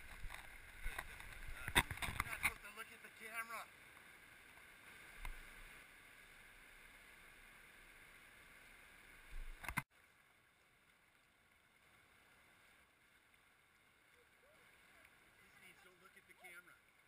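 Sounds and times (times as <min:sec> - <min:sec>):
muffled river water rushing: 0:00.0 - 0:17.0.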